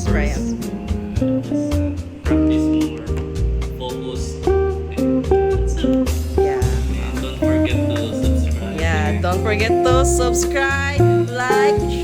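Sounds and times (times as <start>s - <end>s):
bass line: 0.0s - 12.0s
plucked guitar tune: 0.0s - 12.0s.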